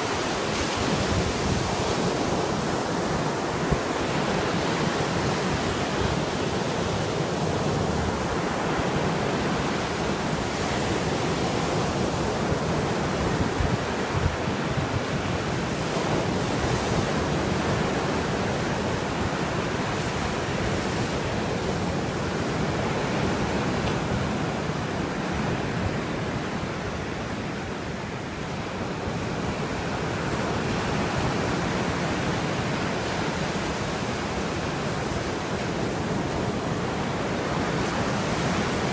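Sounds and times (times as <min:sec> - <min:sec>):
waves washing onto shore: 0:00.0 - 0:38.9
wind rumbling on microphone: 0:00.0 - 0:38.9.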